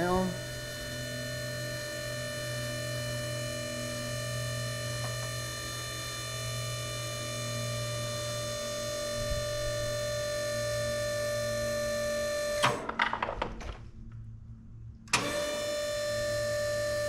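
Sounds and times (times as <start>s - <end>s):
electric boom lift humming: 0.0s - 12.9s, 15.1s - 17.0s.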